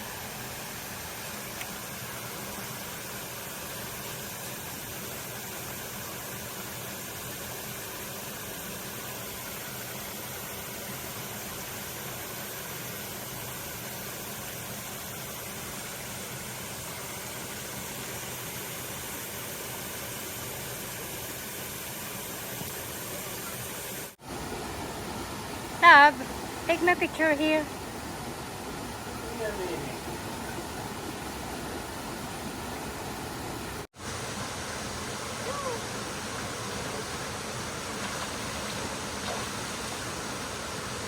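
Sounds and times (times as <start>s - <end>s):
mountain stream rushing: 0.0s - 41.0s.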